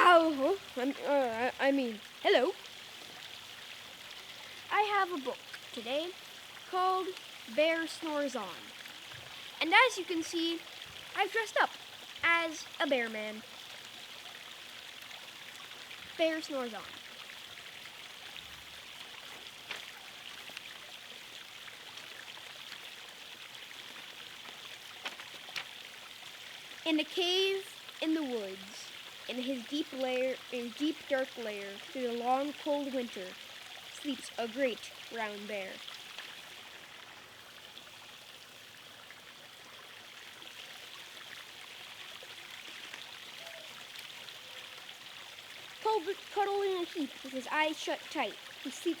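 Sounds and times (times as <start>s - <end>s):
faint running water: 0.0s - 49.0s.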